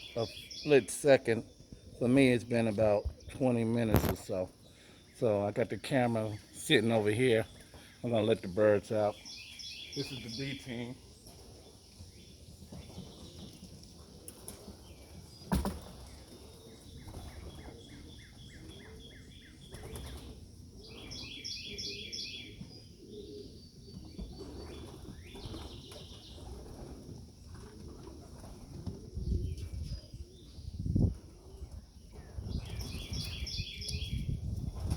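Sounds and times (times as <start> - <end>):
birds chirping: 0.0 - 34.6.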